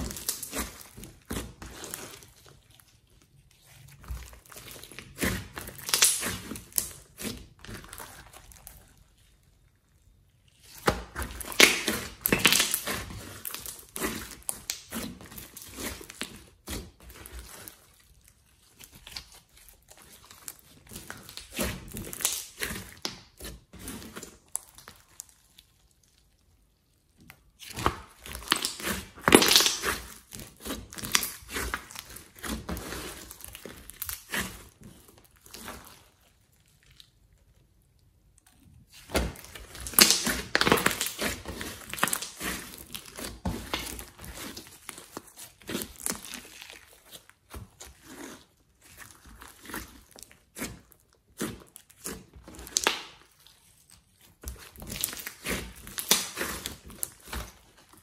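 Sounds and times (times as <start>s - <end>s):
sticky slime squishing: 0.0s - 58.0s.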